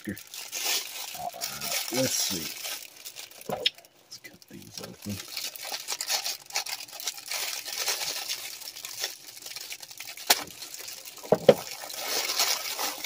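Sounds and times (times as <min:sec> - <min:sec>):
tissue paper crinkling: 0:00.0 - 0:03.9, 0:04.5 - 0:13.0.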